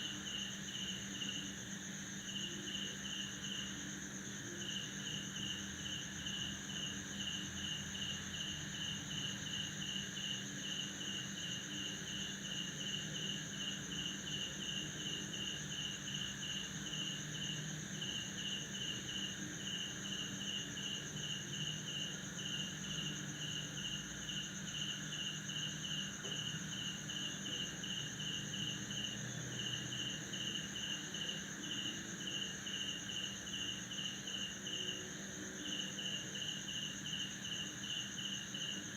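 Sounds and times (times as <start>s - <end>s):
cricket chirping in pulses: 0.0s - 38.9s.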